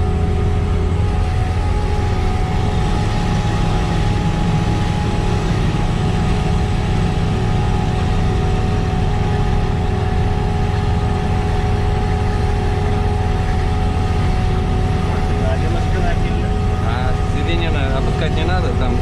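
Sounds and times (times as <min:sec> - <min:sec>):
deep harvester engine drone: 0:00.0 - 0:19.0
faint steady whine: 0:00.0 - 0:19.0.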